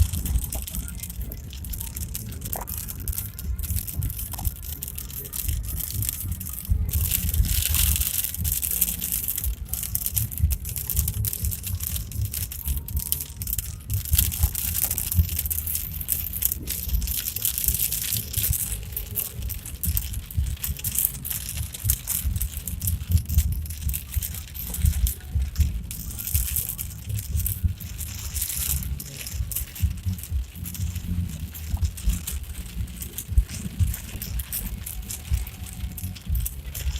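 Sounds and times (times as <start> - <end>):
rattling and knocking: 0.0 - 36.9.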